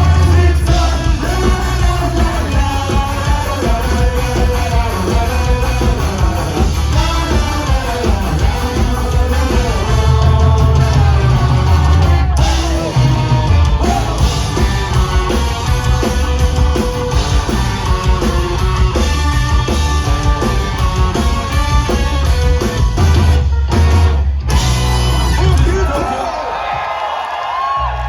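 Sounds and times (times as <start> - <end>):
live rock band playing: 0.0 - 26.3.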